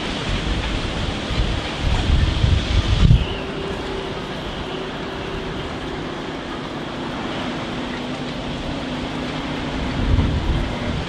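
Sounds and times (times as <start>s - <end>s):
faint steady hum: 0.0s - 11.0s
strong wind buffeting microphone: 0.0s - 11.0s.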